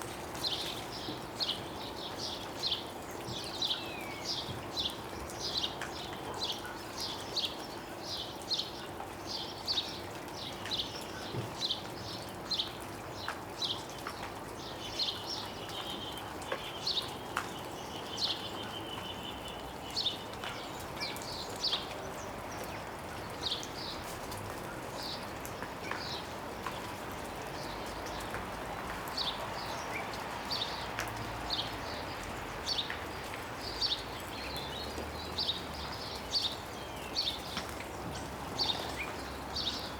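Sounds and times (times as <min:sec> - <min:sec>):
melting snow dripping: 0:00.0 - 0:39.9
small birds chirping: 0:00.1 - 0:39.9.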